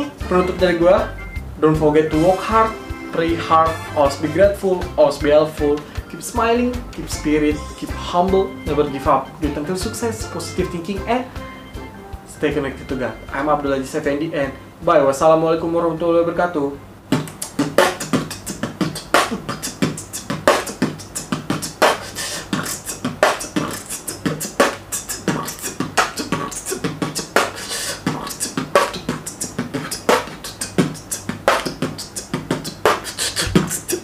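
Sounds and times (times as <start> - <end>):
man beatboxing: 0.0 - 11.4, 17.1 - 34.0.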